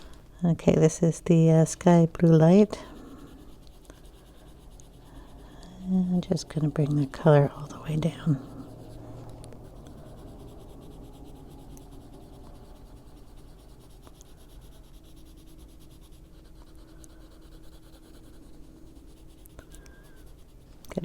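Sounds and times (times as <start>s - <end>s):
pencil scratching on paper: 1.5s - 21.0s.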